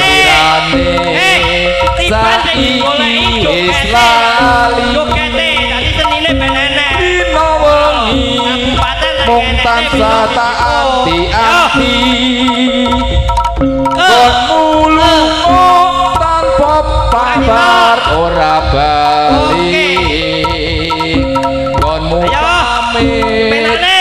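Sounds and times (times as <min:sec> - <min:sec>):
hand drums beating: 0:00.0 - 0:24.0
wavering melody line: 0:00.0 - 0:24.0.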